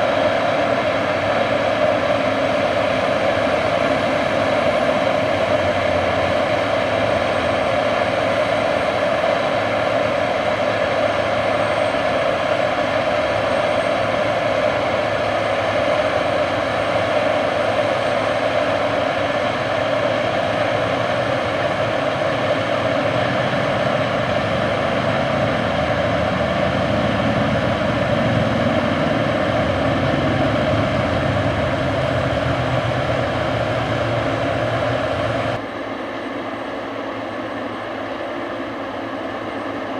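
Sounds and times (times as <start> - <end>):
heavy farm machinery droning: 0.0 - 39.9.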